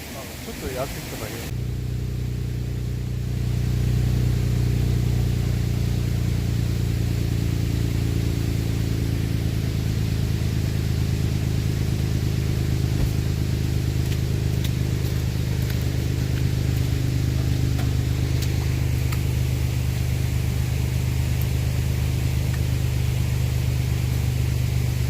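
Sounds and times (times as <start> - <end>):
motor running steadily: 0.3 - 25.0.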